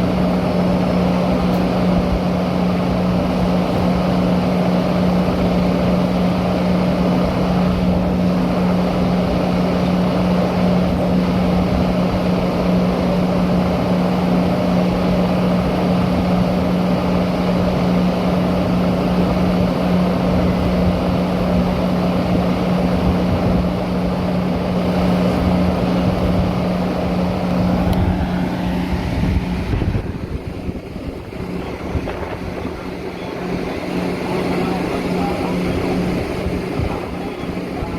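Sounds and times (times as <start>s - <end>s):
commuter train rumbling: 0.0s - 37.9s
constant low hum: 0.0s - 37.9s.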